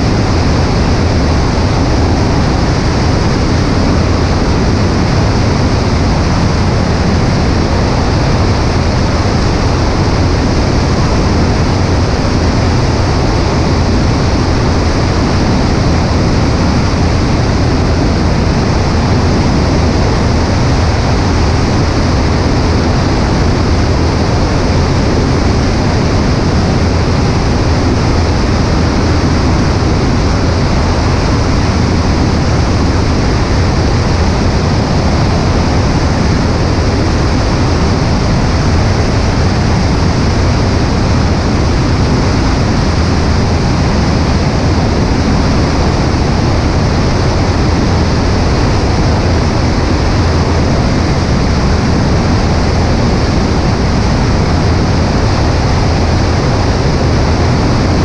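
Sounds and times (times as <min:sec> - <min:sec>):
light aircraft engine drone: 0:00.0 - 0:58.0
wind noise on microphone: 0:00.0 - 0:58.0.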